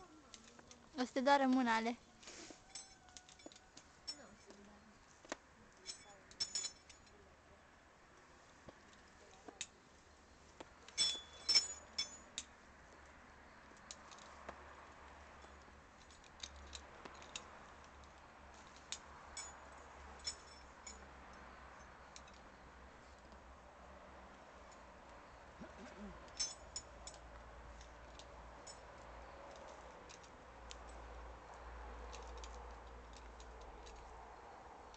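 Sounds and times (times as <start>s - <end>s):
metal climbing gear clinking: 0.0s - 7.3s, 8.5s - 34.9s.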